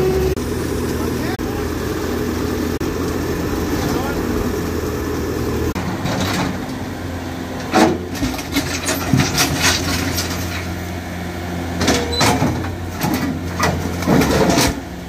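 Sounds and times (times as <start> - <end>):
diesel engine running: 0.0 - 15.0
tracks and bucket clanking: 0.0 - 15.0.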